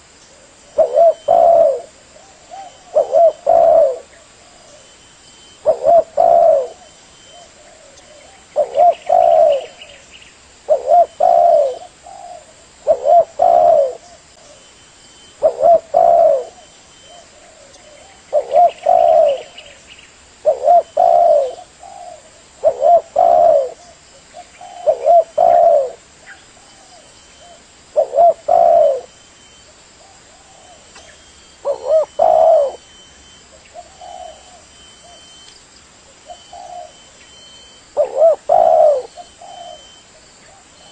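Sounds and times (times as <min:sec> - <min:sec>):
dove cooing: 0:00.0 - 0:10.0, 0:10.6 - 0:19.8, 0:20.4 - 0:35.5, 0:36.1 - 0:40.9.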